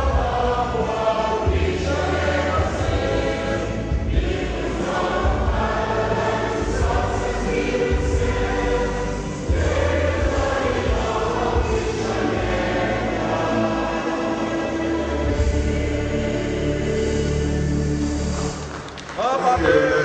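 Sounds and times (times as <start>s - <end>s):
choir singing: 0.0s - 18.7s
low bass: 0.0s - 18.7s.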